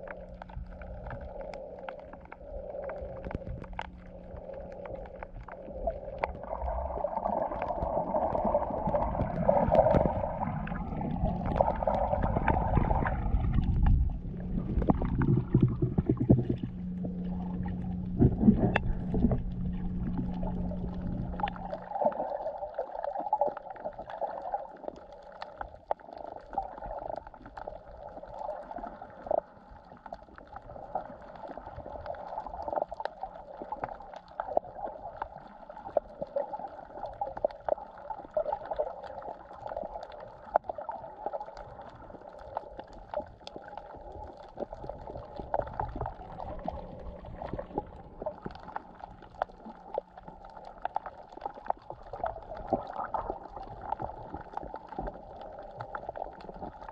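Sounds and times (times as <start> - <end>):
muffled underwater water rush: 0.0 - 56.9
sharp underwater clicks and crackles: 0.0 - 56.9.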